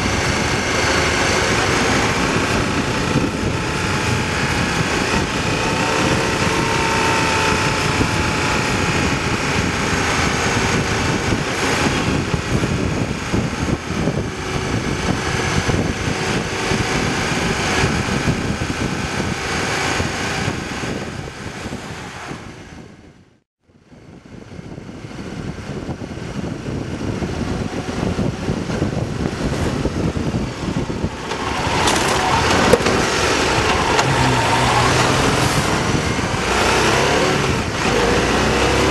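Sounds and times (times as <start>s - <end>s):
motorcycle engine running: 0.0s - 23.1s, 24.3s - 38.9s
road and wind noise: 0.0s - 38.9s.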